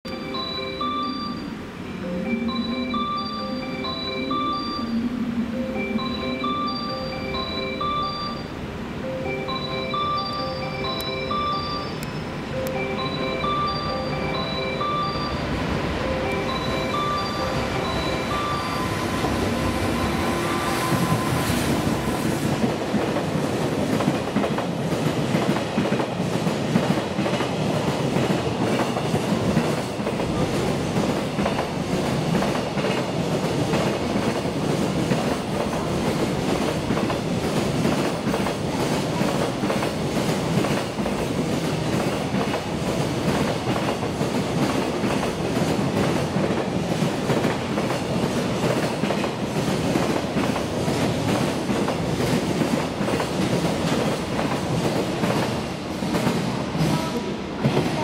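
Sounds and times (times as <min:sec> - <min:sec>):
freight train passing: 0:00.1 - 0:58.0.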